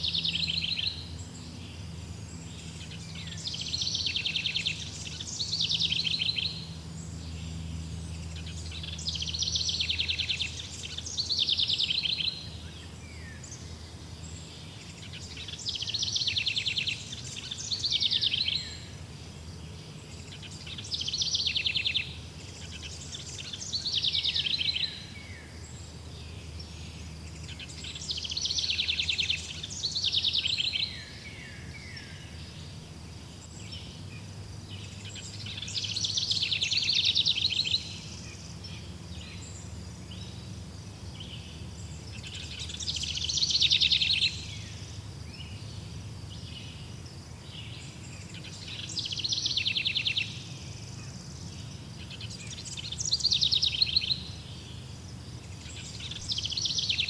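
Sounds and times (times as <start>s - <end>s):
songbird trilling: 0.0s - 57.0s.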